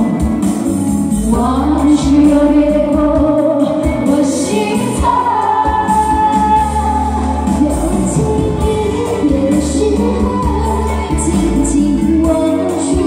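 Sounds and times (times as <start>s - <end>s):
amplified backing music: 0.0s - 13.0s
women singing through microphones: 0.0s - 13.0s.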